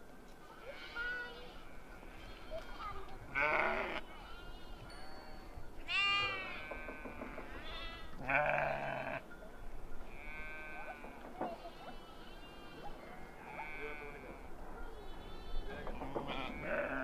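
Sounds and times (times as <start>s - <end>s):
sheep and lambs bleating: 0.6s - 9.3s, 10.0s - 17.0s.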